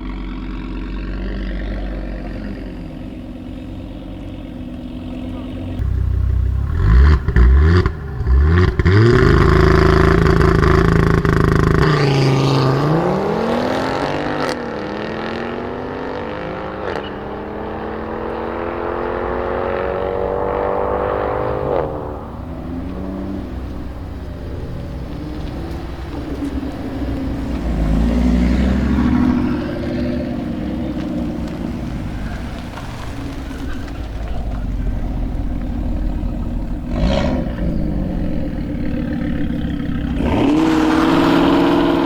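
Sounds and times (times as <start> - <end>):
car engine accelerating: 0.0 - 42.0
exhaust cracks: 0.0 - 42.0.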